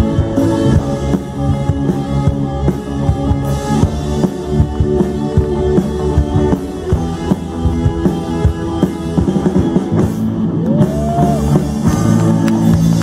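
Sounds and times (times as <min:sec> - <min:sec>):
live pop-rock band playing: 0:00.0 - 0:13.0.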